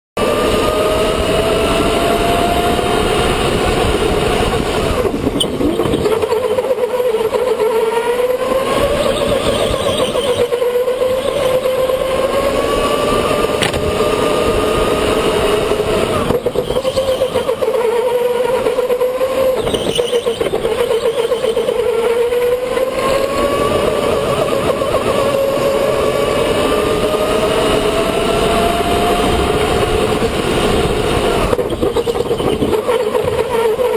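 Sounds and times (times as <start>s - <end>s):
electric go-kart motor whining: 0.2s - 33.9s.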